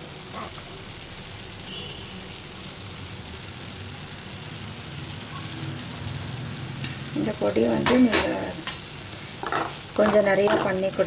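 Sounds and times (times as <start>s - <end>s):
beans sizzling in a pan: 0.0s - 11.0s.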